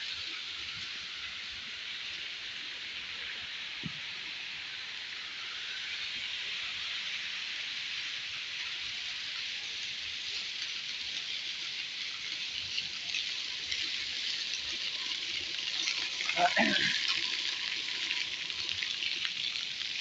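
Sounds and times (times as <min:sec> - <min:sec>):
falling water hiss: 0:00.0 - 0:20.0.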